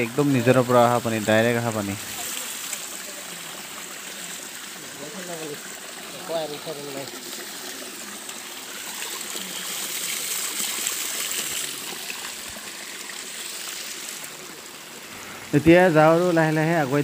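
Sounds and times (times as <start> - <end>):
water pouring and splashing: 0.0 - 17.0.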